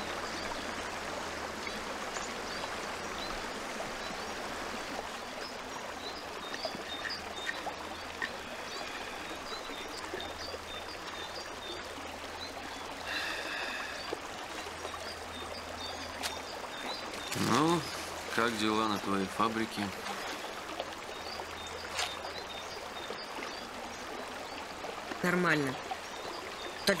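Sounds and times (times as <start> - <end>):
small birds chirping: 0.0 - 27.0
stream flowing: 0.0 - 27.0.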